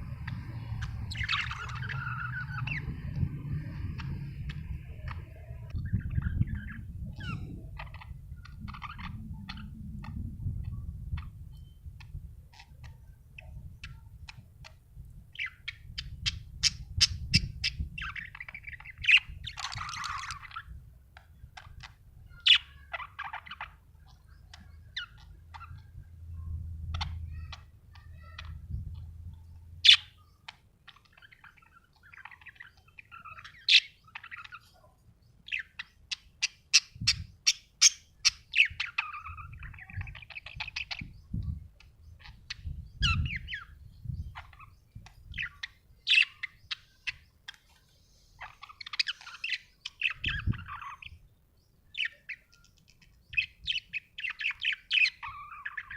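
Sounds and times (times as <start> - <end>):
budgerigar chirping and warbling: 0.2 - 3.0, 3.8 - 20.8, 21.6 - 47.6, 48.4 - 51.2, 51.9 - 55.9.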